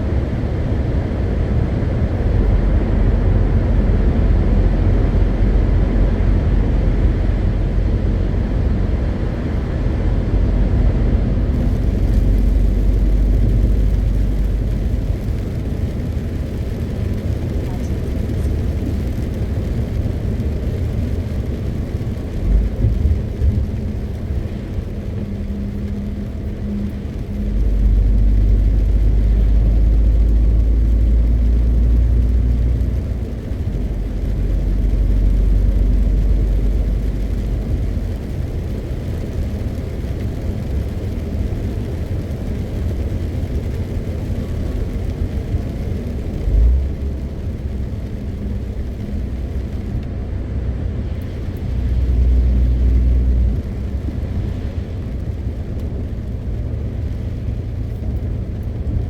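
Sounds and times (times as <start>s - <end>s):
truck diesel engine rumble: 0.0s - 59.0s
tyres on road: 0.0s - 59.0s.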